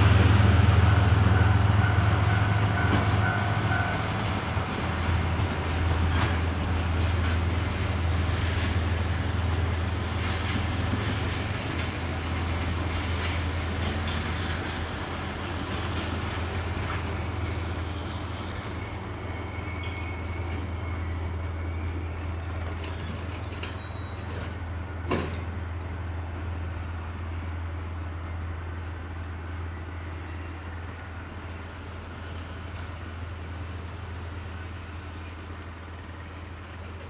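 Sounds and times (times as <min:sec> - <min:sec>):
train engine drone: 0:00.0 - 0:37.0
train wheel and wagon noise: 0:00.0 - 0:37.0.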